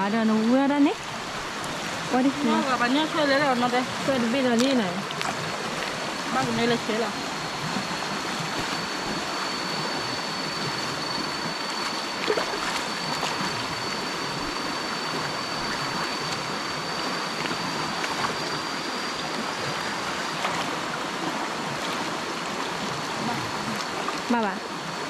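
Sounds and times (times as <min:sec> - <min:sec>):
stream water over rocks: 0:00.0 - 0:25.0
thin high whine: 0:00.0 - 0:25.0.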